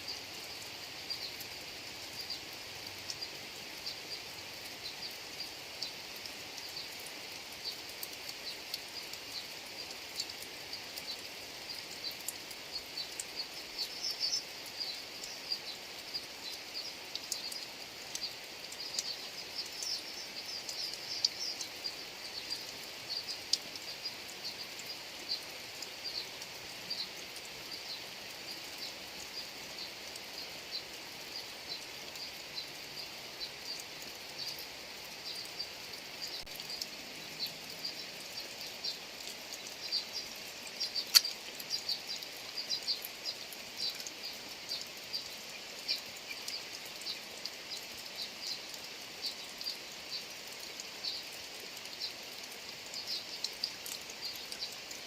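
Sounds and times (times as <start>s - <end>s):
high-pitched ticks and chirps: 0.0s - 55.0s
steady rain falling: 0.0s - 55.0s.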